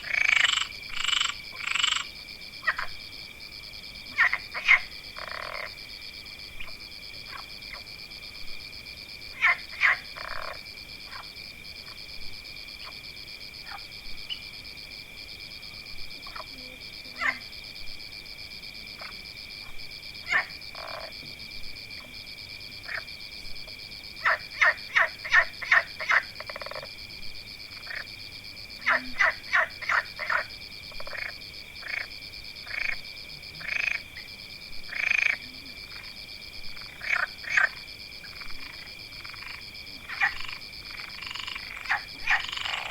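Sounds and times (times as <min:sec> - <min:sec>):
frogs croaking: 0:00.0 - 0:42.9.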